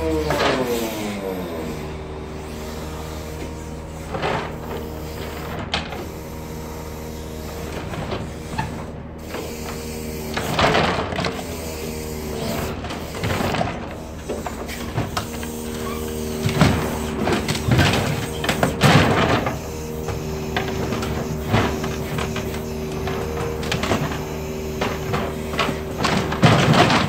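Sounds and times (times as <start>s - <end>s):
truck engine and hydraulics droning: 0.0s - 27.0s.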